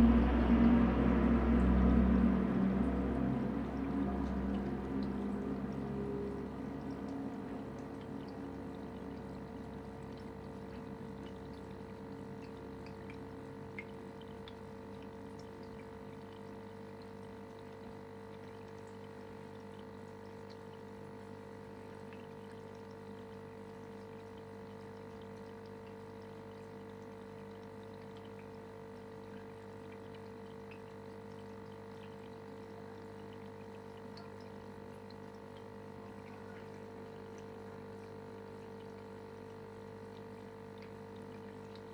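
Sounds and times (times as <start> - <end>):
aquarium filter pump humming: 0.0 - 41.9
faint ticks of bubbles: 0.0 - 41.9
water trickling: 0.0 - 41.9.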